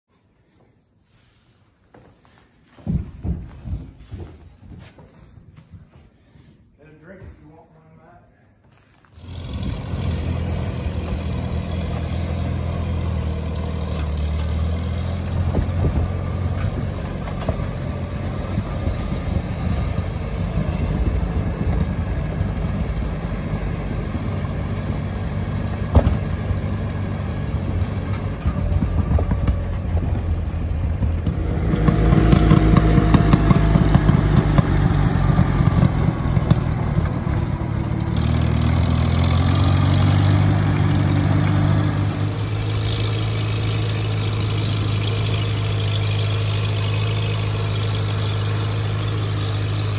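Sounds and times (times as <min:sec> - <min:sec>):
tractor engine running: 0:08.9 - 0:49.9.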